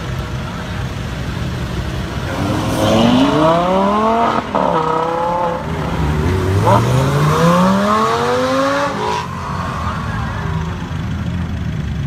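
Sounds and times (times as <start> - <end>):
car engine revving: 1.5 - 11.5.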